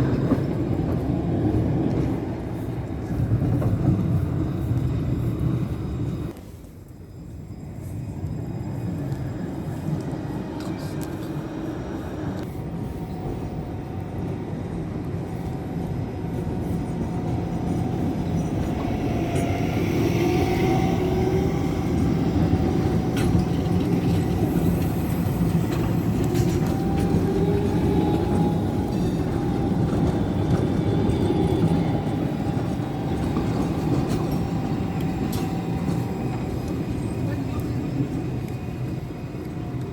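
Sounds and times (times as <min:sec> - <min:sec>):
tram rumbling: 0:00.0 - 0:39.9.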